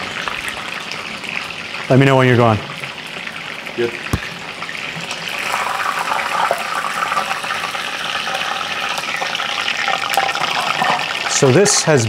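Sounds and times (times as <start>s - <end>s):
wings deep-frying bubbling sizzle: 0.0s - 12.0s.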